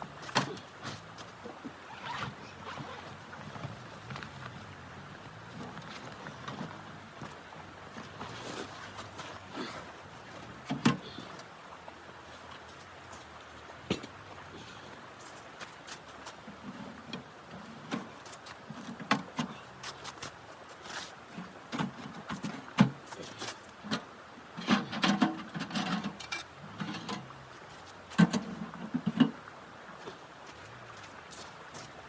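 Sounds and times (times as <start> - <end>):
faint steady hiss: 0.0 - 32.0.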